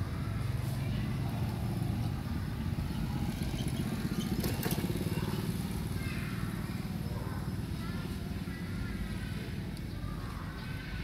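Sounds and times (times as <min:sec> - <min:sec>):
small engine idling: 0:00.2 - 0:10.4.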